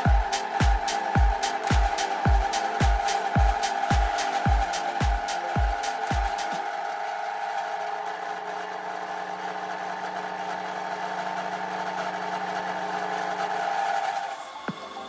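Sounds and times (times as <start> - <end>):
hiss of metal cutting: 0.0 - 15.0
milling machine whine: 0.0 - 15.0.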